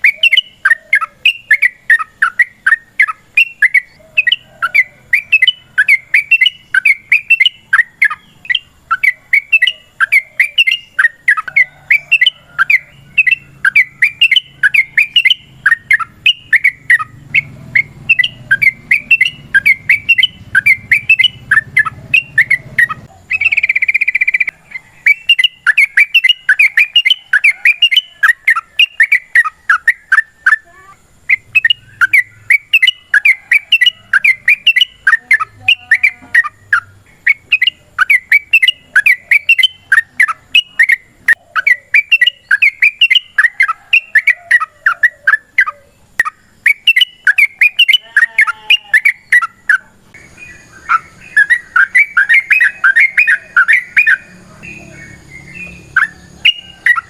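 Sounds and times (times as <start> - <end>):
bulbul singing chattering chirps: 0.0 - 57.0.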